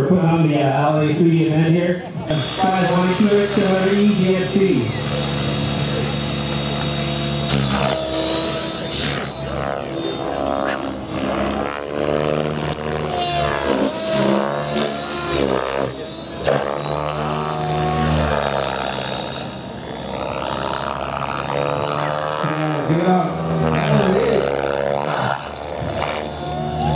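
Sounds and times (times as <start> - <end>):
model helicopter rotor and motor: 0.0 - 26.9.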